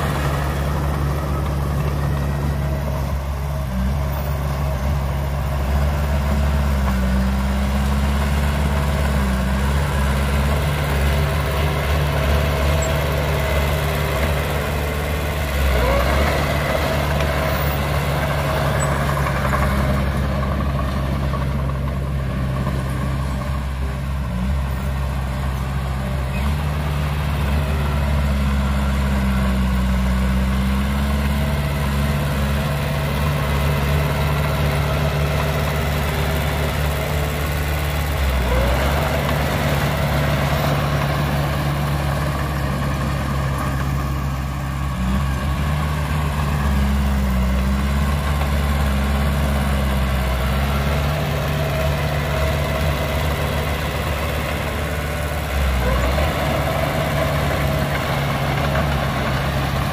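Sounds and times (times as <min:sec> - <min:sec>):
diesel engine running at low revs: 0:00.0 - 0:59.9.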